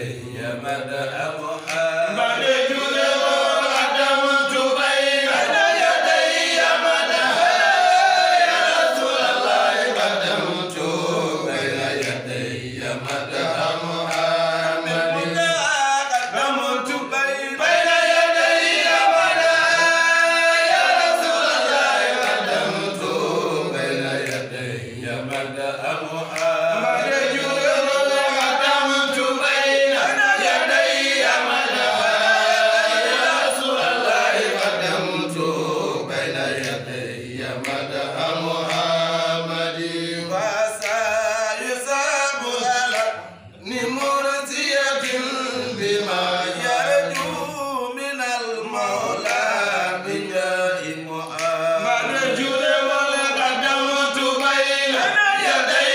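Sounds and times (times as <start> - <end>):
men chanting a devotional song: 0.0 - 55.9.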